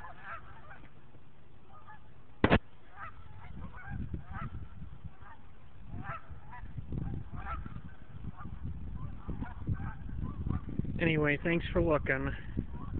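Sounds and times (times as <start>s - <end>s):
geese honking: 0.0s - 10.8s, 12.7s - 12.9s.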